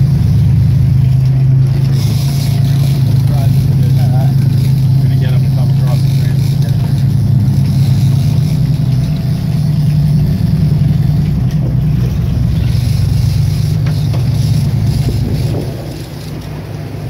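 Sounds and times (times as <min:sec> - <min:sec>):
boat engines droning: 0:00.0 - 0:17.0
rush of wind and water: 0:00.0 - 0:17.0.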